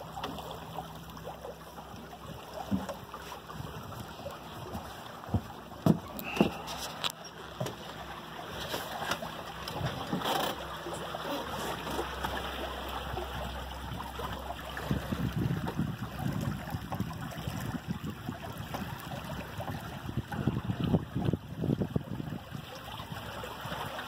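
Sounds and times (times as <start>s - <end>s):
low rumbles: 0.0s - 22.5s
water rushing along hulls: 0.0s - 24.0s.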